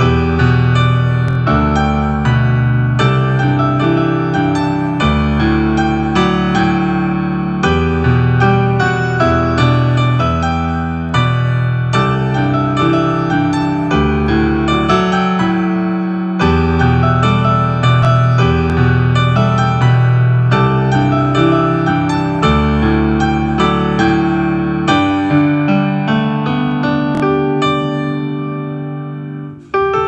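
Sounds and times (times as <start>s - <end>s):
digital keyboard piano: 0.0s - 30.0s.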